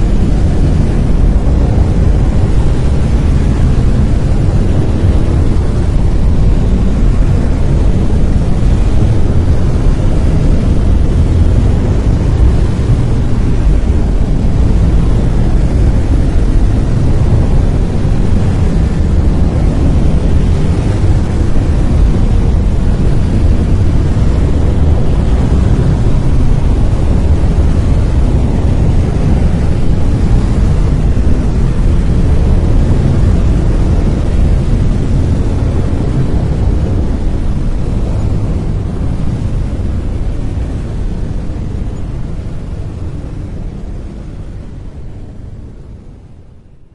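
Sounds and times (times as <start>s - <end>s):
brown noise: 0.0s - 46.9s.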